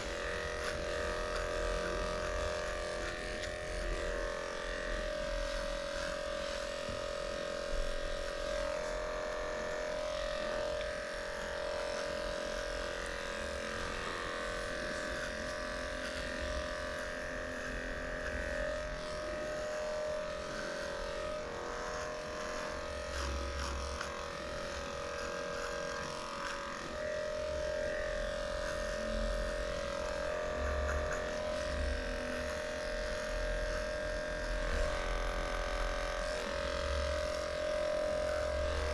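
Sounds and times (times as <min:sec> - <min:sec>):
electric clippers buzzing: 0:00.0 - 0:38.9.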